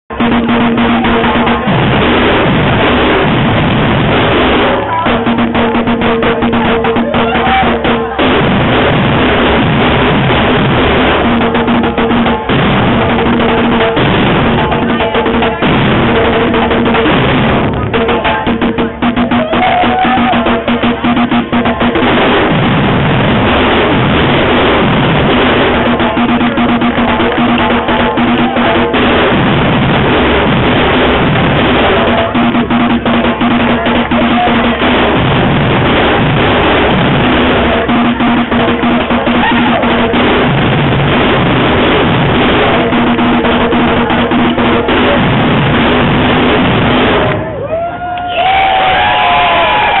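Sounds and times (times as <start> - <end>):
percussion band drum groove: 0.0 - 50.0.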